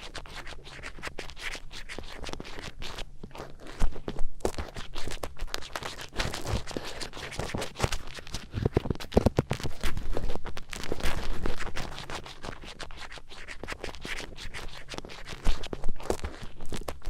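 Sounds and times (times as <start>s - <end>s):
earpick scratching and scraping: 0.0s - 17.0s.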